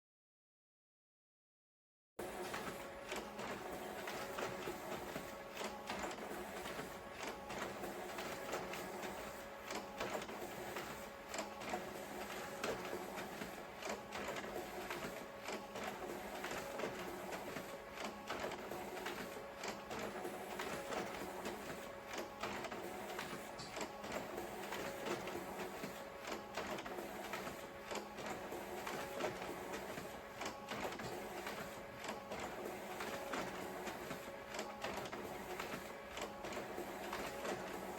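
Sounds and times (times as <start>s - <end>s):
photocopier whirring: 2.2s - 37.9s
paper feeding clatter: 2.4s - 37.9s.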